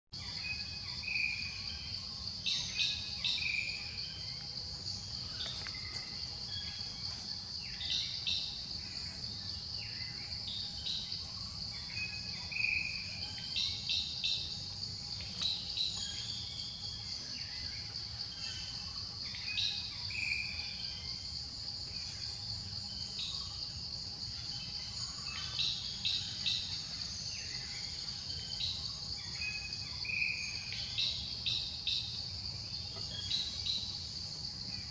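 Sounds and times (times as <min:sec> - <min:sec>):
insect chorus: 0:00.1 - 0:34.9.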